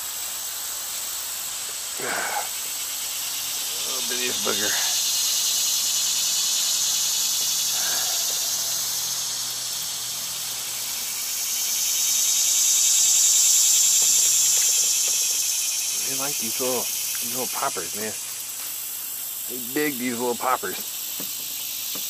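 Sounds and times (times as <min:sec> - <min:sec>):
cicadas singing: 0:00.0 - 0:22.0.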